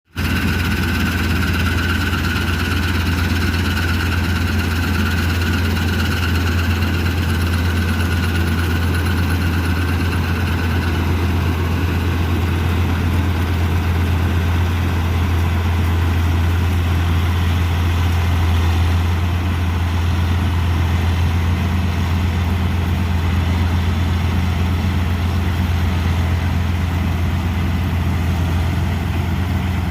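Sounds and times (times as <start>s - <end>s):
combine harvester engine drone: 0.1s - 29.9s
high machine whine: 0.2s - 26.8s.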